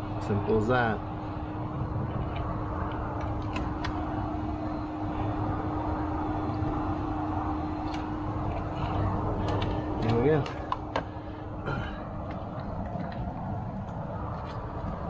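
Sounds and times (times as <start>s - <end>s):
mechanical hum with low rumble: 0.0s - 15.0s.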